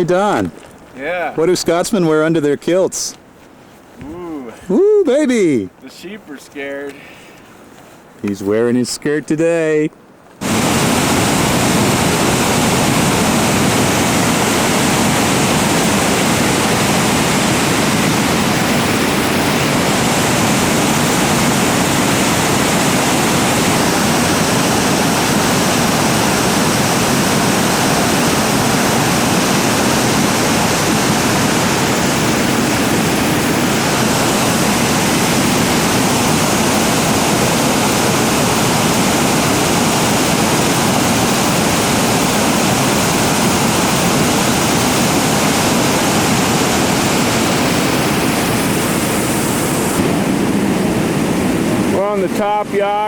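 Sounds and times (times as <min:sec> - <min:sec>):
whitewater rushing over rapids: 0:10.4 - 0:53.0.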